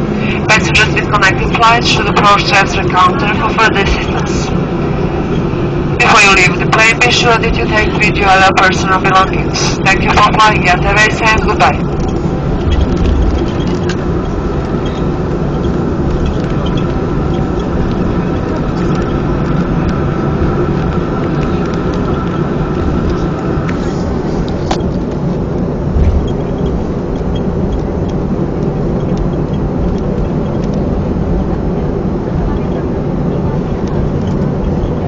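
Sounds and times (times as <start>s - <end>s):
jet engines idling: 0.0s - 35.0s.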